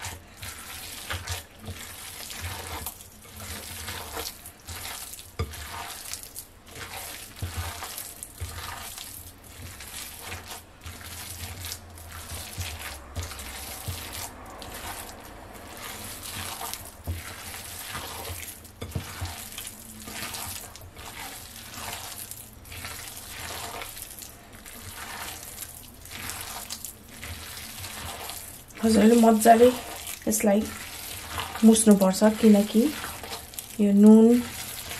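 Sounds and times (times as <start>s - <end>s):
hands squelching minced meat: 0.0s - 34.9s.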